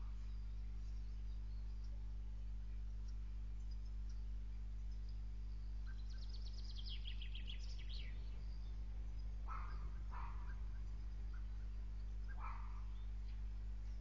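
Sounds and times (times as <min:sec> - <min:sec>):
bird calls: 0:00.0 - 0:14.0
low electrical hum: 0:00.0 - 0:14.0.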